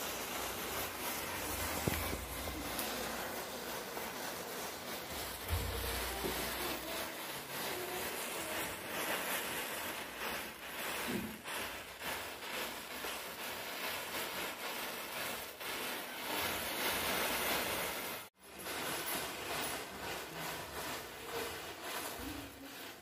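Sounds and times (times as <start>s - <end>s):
matchsticks burning with crackling: 0.0s - 23.0s.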